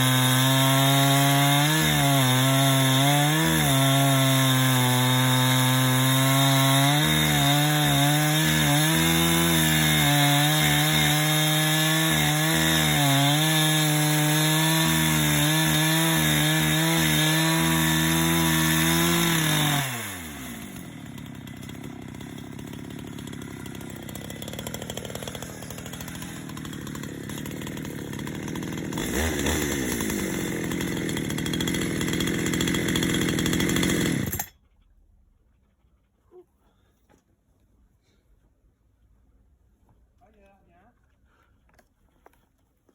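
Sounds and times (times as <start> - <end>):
chainsaw cutting log: 0.0 - 34.6.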